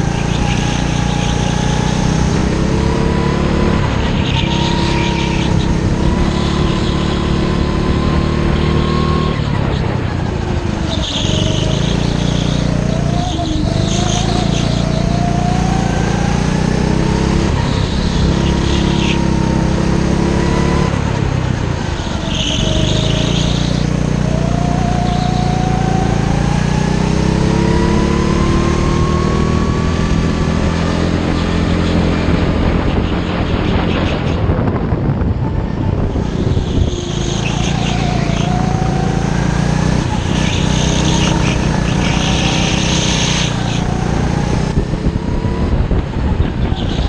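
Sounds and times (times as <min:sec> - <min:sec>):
go-kart engine revving: 0:00.0 - 0:47.0.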